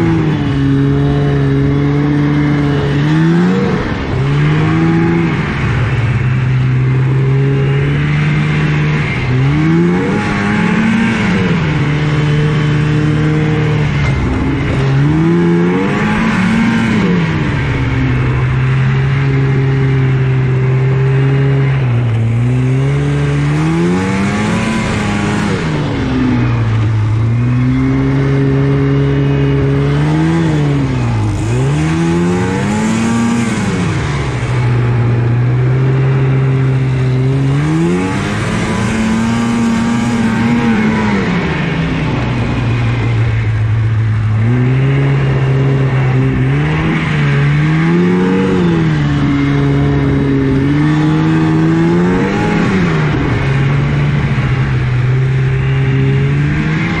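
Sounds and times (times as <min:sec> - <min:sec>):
snowmobile engine running hard: 0:00.0 - 0:57.0.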